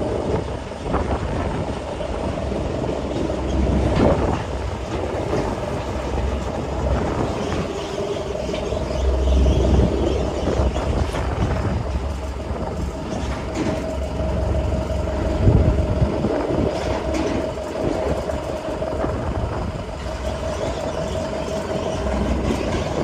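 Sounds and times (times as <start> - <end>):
machinery clatter: 0.0 - 23.0
pile driver engine drone: 0.0 - 23.0.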